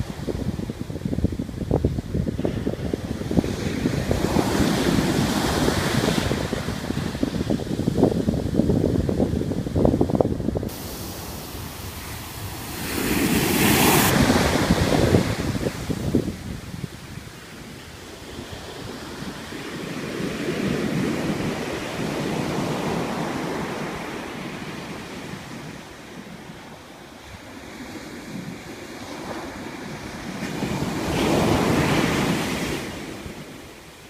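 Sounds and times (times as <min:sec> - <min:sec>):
ocean surf breaking on beach: 0:00.0 - 0:34.0.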